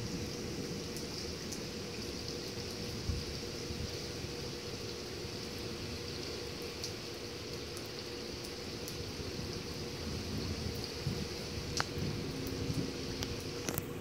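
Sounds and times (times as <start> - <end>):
faint steady hum: 0.0 - 14.0
rain hissing: 0.0 - 14.0.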